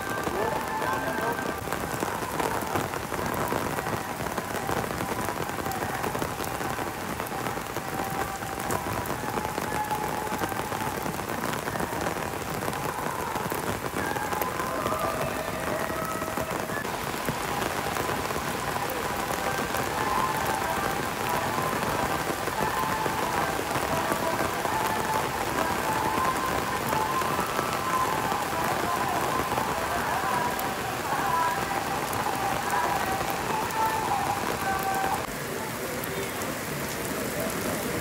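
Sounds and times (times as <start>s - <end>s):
heavy rain on stone paving: 0.0s - 38.0s.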